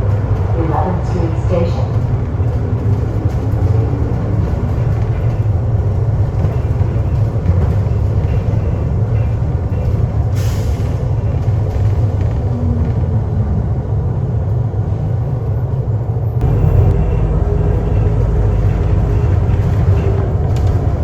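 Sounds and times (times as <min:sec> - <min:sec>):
vehicle low rumble: 0:00.0 - 0:21.0.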